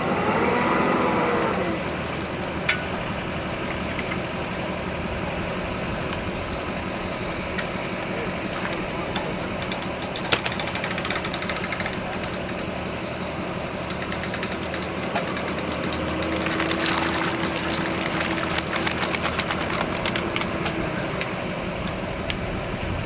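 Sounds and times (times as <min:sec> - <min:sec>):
engine idling with ticking clatter: 0:01.1 - 0:23.0.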